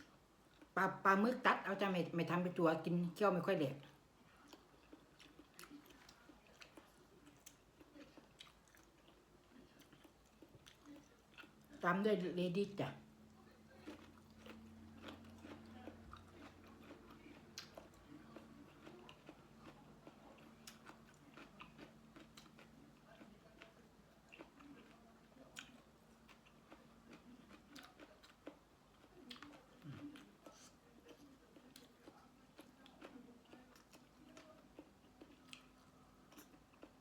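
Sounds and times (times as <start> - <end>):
faint chewing and crunching: 0.0 - 37.0.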